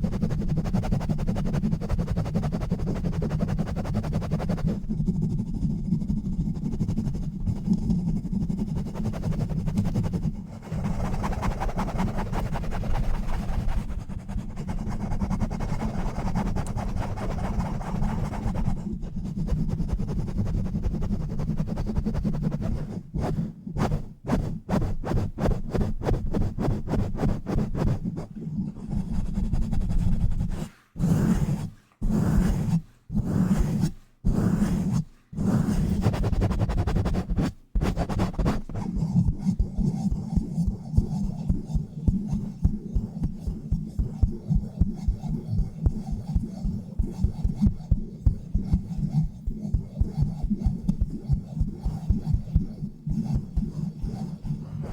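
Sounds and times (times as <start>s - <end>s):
hands rubbing on microphone: 0.0s - 54.9s.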